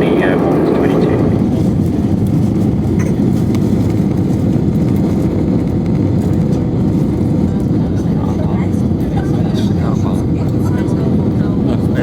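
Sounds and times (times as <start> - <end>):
jet cabin engine roar: 0.0 - 12.0.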